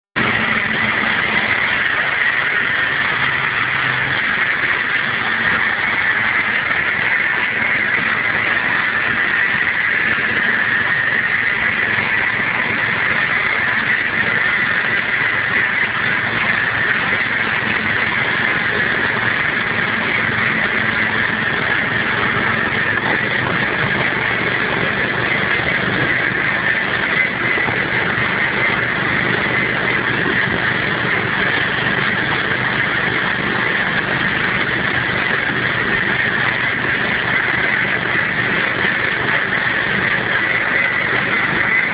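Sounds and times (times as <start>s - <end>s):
lawn tractor engine running: 0.0s - 41.9s
loud rushing noise: 0.0s - 41.9s.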